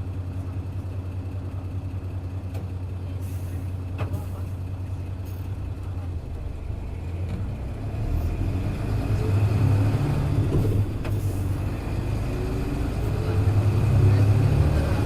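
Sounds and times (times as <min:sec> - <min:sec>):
bus diesel engine: 0:00.0 - 0:15.0.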